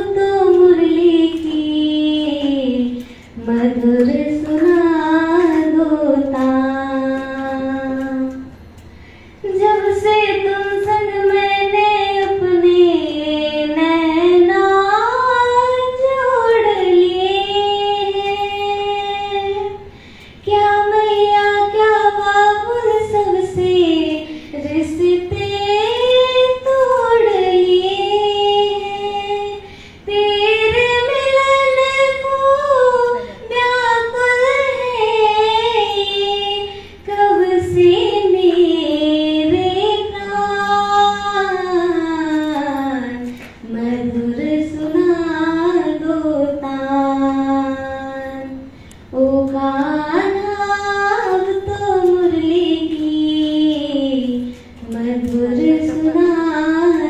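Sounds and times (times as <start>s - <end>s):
girl singing unaccompanied: 0.0s - 8.5s, 9.4s - 57.0s.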